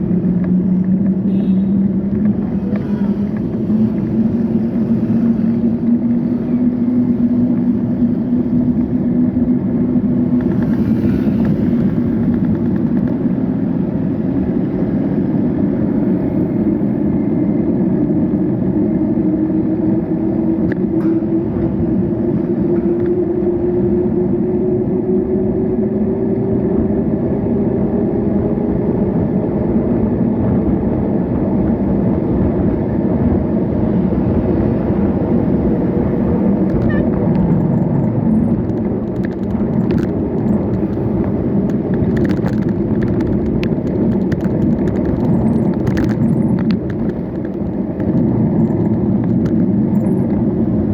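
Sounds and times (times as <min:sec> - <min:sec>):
road and traffic noise: 0:00.0 - 0:50.9
vehicle engine drone: 0:00.0 - 0:50.9.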